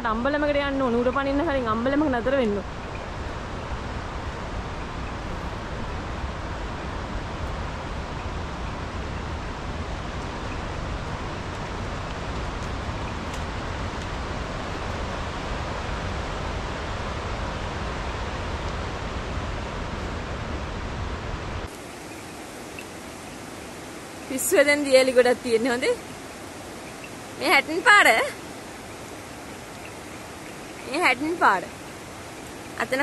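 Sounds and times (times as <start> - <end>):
heavy rain: 0.0 - 33.0
wind buffeting microphone: 0.0 - 33.0.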